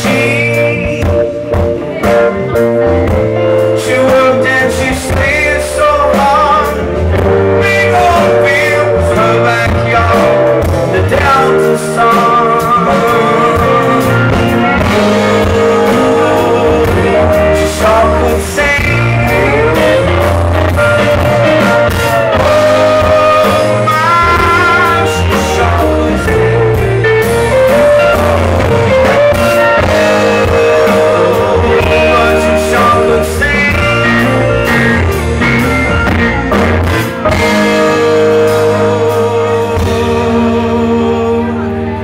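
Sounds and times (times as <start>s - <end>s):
live rock band playing: 0.0s - 42.0s
sliding guitar lead line: 0.0s - 42.0s.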